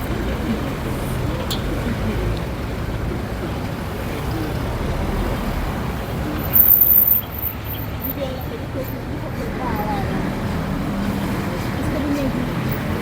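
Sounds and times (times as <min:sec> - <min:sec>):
faint voices: 0:00.0 - 0:13.0
road traffic rumble: 0:00.0 - 0:13.0.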